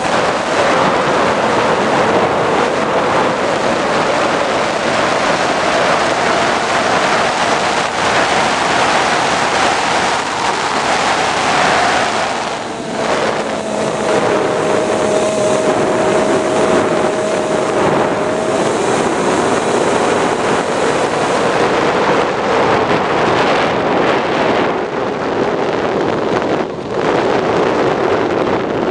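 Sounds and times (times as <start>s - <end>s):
electric motor and propeller whine: 0.0s - 28.9s
wind rushing over camera: 0.0s - 28.9s.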